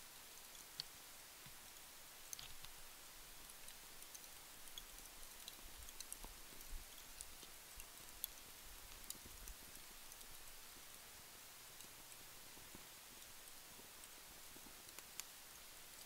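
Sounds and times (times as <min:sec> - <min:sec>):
fire crackling with pops: 0:00.1 - 0:16.0.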